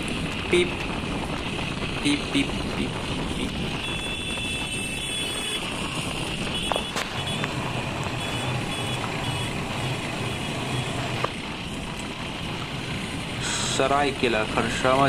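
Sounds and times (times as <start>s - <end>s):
wind on microphone: 0.0s - 13.5s
motorbike engine: 0.0s - 15.0s.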